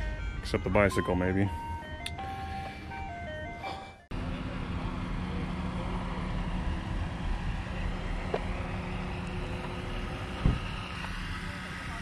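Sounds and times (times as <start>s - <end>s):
road noise: 0.0s - 12.0s
vehicle engine humming: 0.0s - 12.0s.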